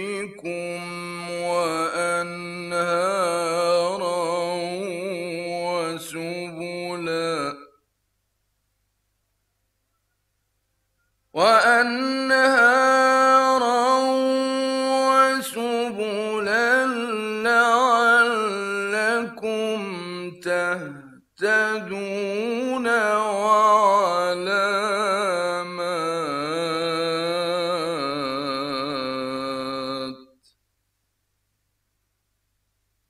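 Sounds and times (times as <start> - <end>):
man chanting recitation: 0.0 - 7.7, 11.4 - 30.4.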